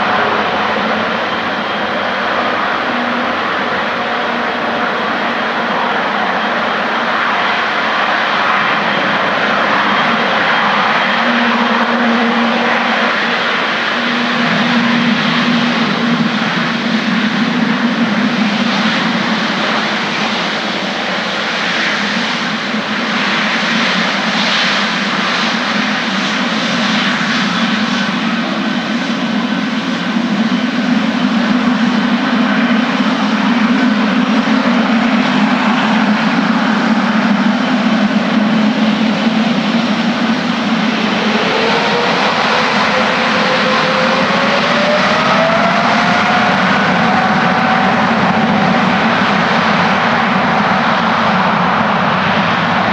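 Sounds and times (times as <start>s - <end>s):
jet engines at takeoff thrust: 0.0s - 52.9s.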